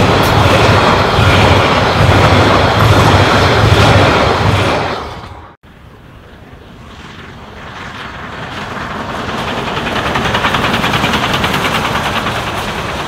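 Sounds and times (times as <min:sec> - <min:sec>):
steam locomotive exhaust beats: 0:00.0 - 0:13.0.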